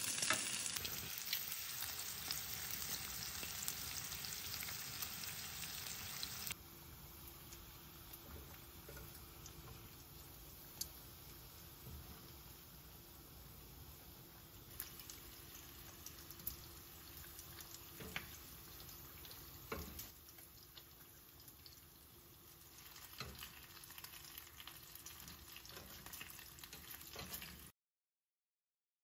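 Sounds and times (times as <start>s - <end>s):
food frying in a pan: 0.0s - 27.8s.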